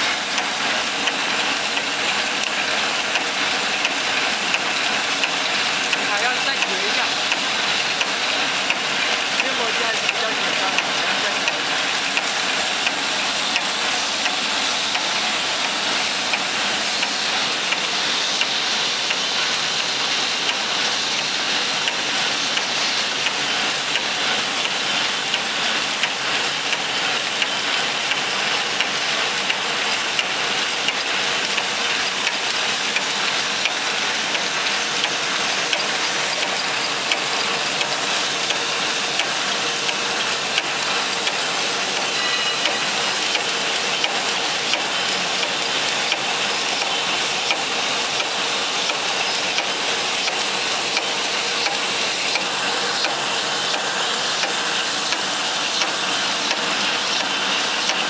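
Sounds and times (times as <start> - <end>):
machine hiss and rumble: 0.0 - 58.0.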